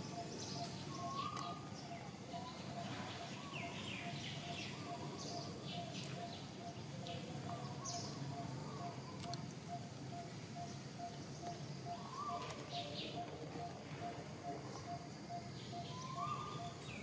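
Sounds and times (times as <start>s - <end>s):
birds chirping and whistling: 0.0s - 6.8s, 9.7s - 17.0s.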